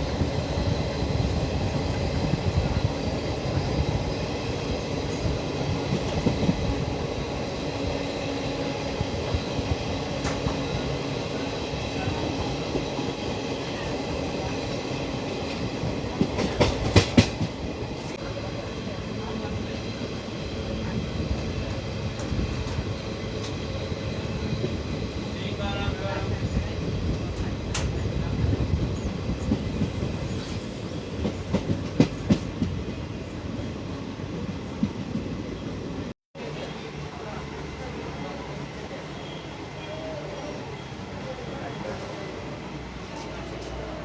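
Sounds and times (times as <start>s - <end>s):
train wheels on rails: 0.0s - 44.0s.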